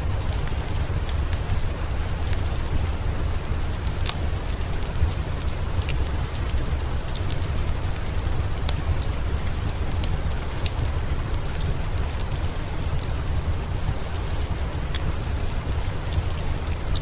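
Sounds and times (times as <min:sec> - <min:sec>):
steady rain falling: 0:00.0 - 0:17.0
wood fire crackling: 0:00.0 - 0:17.0.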